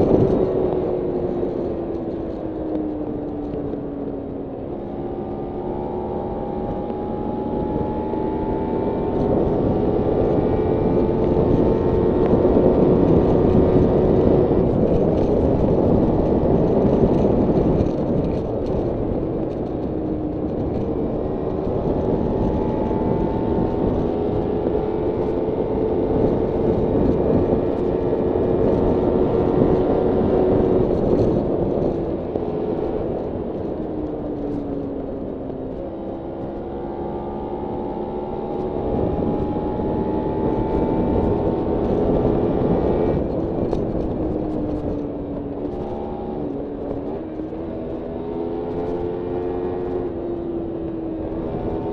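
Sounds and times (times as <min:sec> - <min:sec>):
motorcycle engine running: 0:00.0 - 0:51.9
rushing wind: 0:00.0 - 0:51.9.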